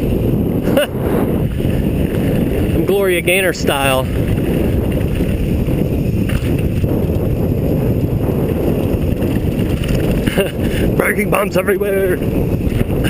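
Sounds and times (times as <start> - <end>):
wind buffeting microphone: 0.0 - 13.0
tyres crunching over rough trail: 1.3 - 13.0.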